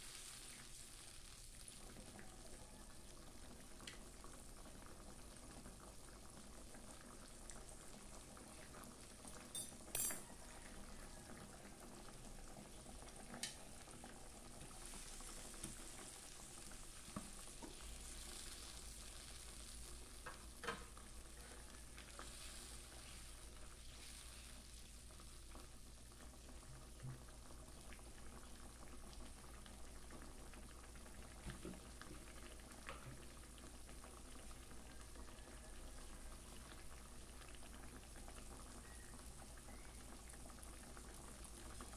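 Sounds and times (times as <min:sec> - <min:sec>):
soup bubbling at a boil: 0:00.0 - 0:41.9.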